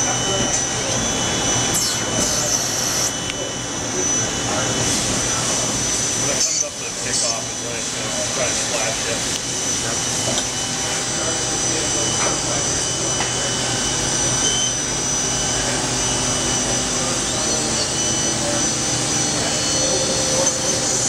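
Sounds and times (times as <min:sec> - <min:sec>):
high mechanical whine: 0:00.0 - 0:21.0
lathe machine running: 0:00.0 - 0:21.0.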